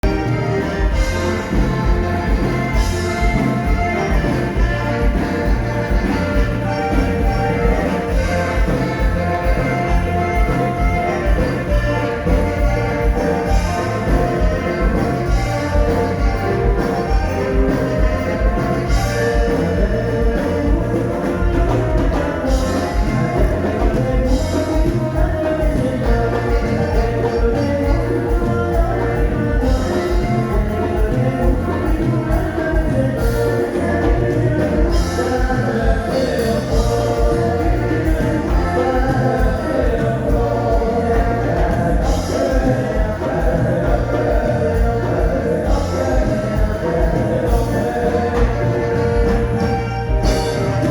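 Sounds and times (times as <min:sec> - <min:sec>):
band playing music: 0:00.0 - 0:50.9
person singing: 0:00.0 - 0:50.9.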